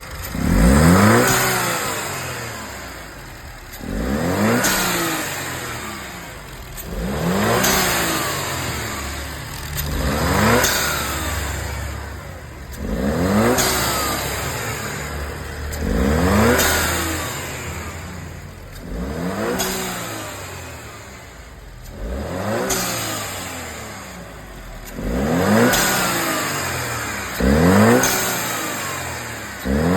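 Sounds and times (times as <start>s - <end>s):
turbocharged car engine revving: 0.0s - 29.9s.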